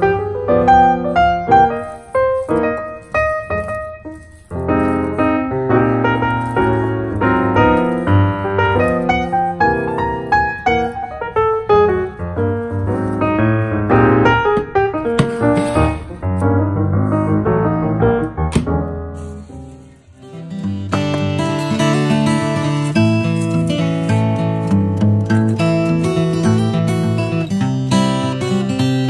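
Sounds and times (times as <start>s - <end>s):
lively piano music: 0.0s - 29.0s.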